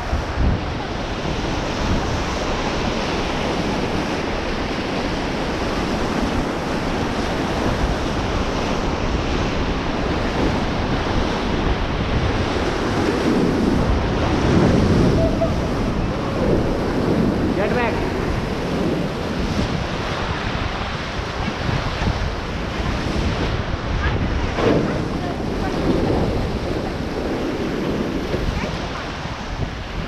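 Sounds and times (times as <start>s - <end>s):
river rapids rushing: 0.0s - 30.0s
wind buffeting microphone: 0.0s - 30.0s.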